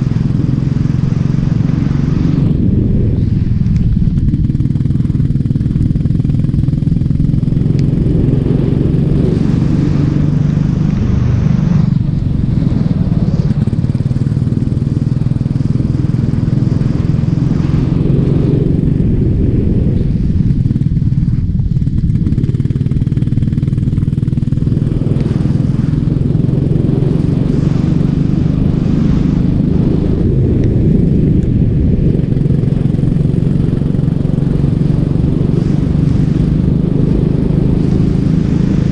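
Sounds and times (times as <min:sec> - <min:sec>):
racing kart engine running: 0:00.0 - 0:38.9.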